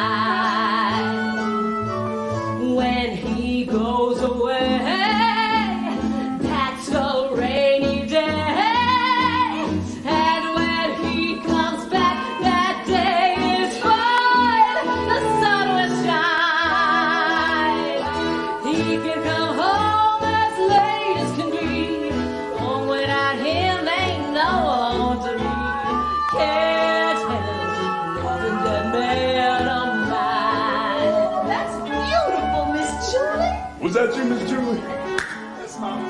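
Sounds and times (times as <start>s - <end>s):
women singing with vibrato: 0.0s - 33.8s
theatre orchestra: 0.0s - 36.0s.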